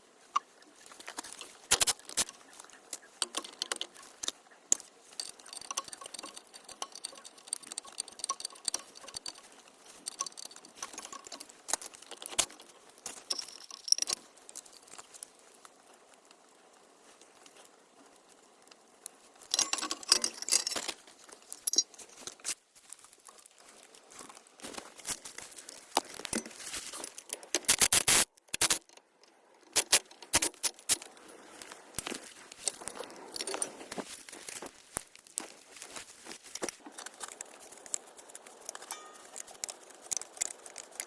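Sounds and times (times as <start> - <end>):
small clicks and taps: 0.3 - 22.6, 23.2 - 41.0.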